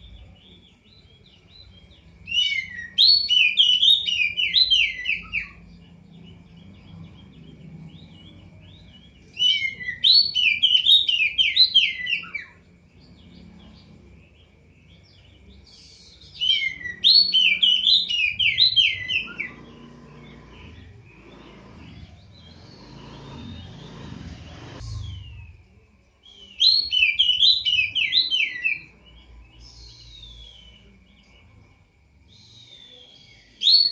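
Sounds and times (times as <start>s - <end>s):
soft bird chirps: 0.0s - 33.9s
songbird twittering warbles: 0.0s - 33.9s.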